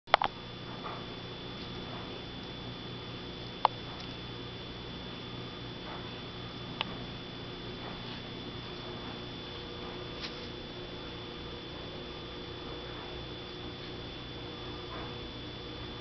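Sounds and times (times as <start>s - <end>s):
electrical hum with high whine: 0.1s - 16.0s.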